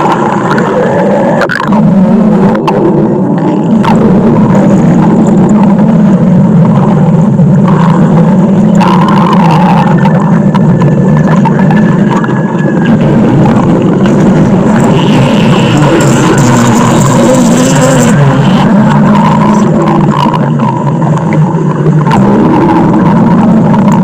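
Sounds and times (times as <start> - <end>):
stomach growling: 0.0 - 24.0.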